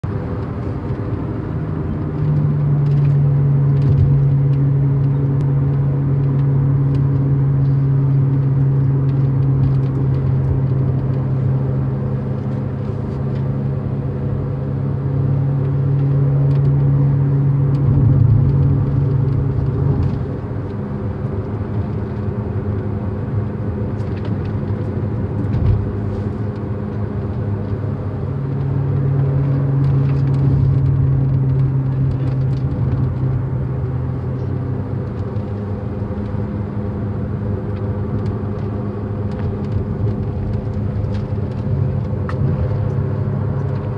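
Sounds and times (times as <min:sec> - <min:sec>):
low humming drone from car: 0:00.0 - 0:43.9.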